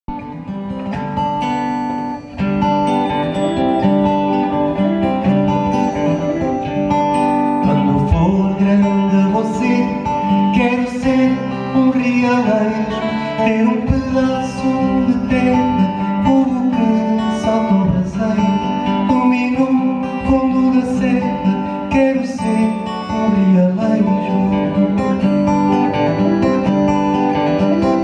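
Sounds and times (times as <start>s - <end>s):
plucked acoustic guitar: 0.1s - 28.0s.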